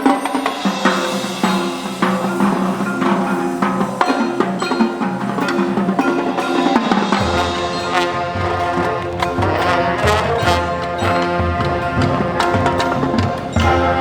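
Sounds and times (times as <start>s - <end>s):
marching band playing: 0.0s - 14.0s
ringing mallet notes: 0.0s - 14.0s
sharp percussion strikes: 0.0s - 14.0s.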